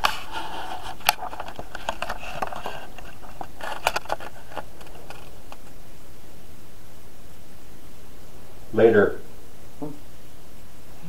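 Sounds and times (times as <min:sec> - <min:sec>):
crackle bursts: 0:00.0 - 0:11.0
steady hiss: 0:00.0 - 0:11.0.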